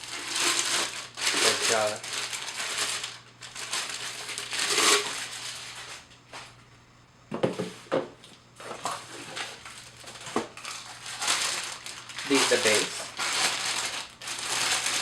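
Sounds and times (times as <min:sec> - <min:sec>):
packaging rustling and crinkling: 0:00.0 - 0:06.0, 0:08.6 - 0:15.0.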